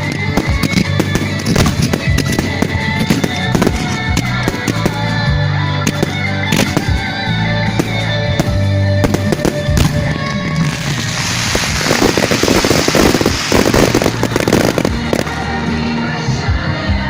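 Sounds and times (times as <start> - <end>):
fireworks banging: 0.0 - 15.8
dense fireworks crackling: 0.0 - 16.0
loud music: 0.0 - 17.0.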